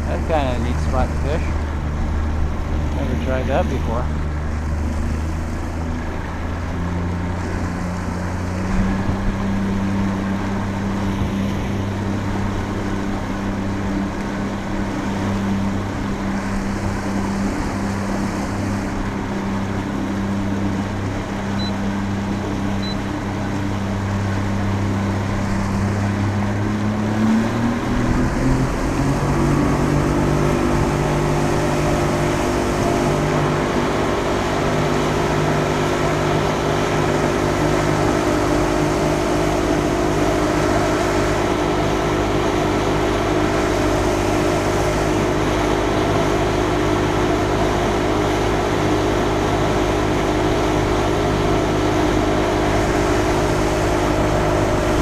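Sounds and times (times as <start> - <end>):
outboard motor running: 0.0 - 55.0
wind and water rushing: 0.0 - 55.0.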